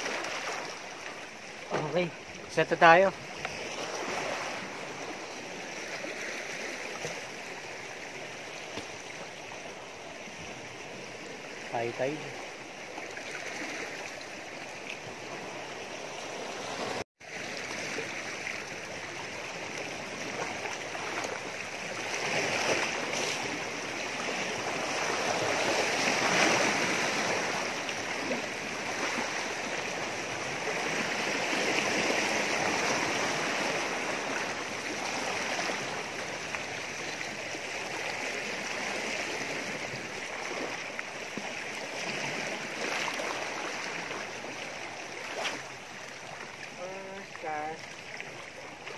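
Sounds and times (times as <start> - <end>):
sea washing against rocks: 0.0 - 9.4, 15.0 - 48.0.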